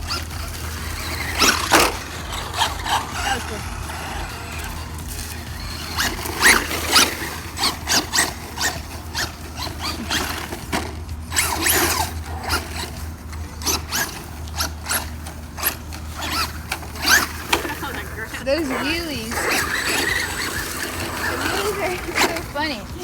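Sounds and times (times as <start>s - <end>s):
toy truck electric motor whining: 0.0s - 23.0s.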